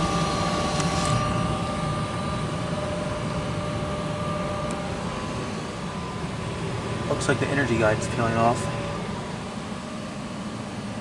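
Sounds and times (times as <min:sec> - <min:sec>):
furnace burner rushing: 0:00.0 - 0:11.0
steady humming tones: 0:00.0 - 0:11.0.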